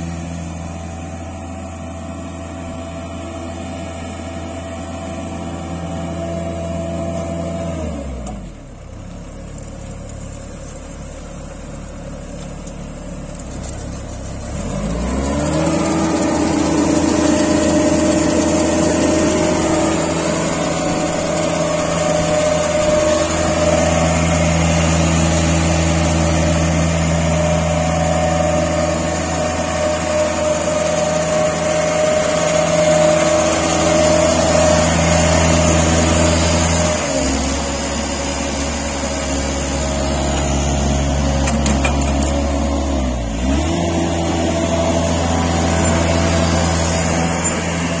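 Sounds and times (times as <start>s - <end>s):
mower diesel engine running: 0.0s - 48.0s.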